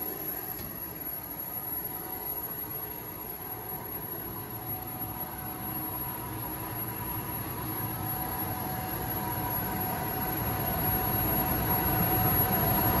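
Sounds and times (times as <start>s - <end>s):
air compressor humming and whining: 0.0s - 13.0s.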